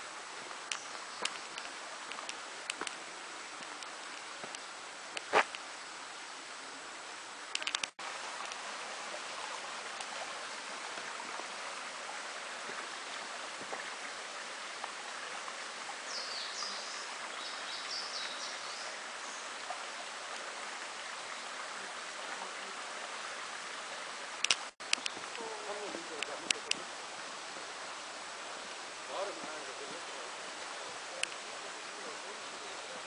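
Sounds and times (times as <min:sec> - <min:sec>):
mountain stream rushing: 0:00.0 - 0:33.0.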